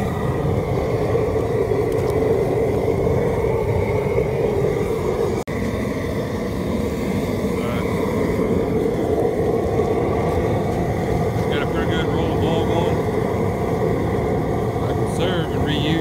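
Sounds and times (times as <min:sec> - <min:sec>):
propane burner roaring: 0:00.0 - 0:16.0
water at a rolling boil: 0:00.0 - 0:16.0.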